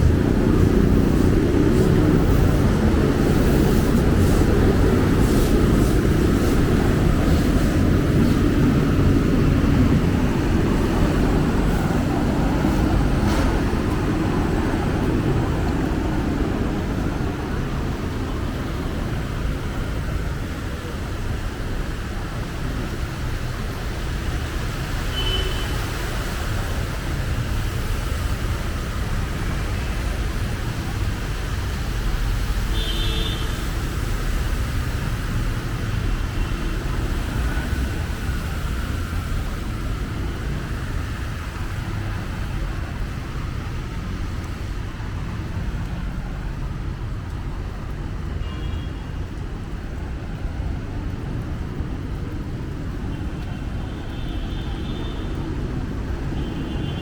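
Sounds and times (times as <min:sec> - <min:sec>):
rumble of passing vehicles: 0:00.0 - 0:57.0.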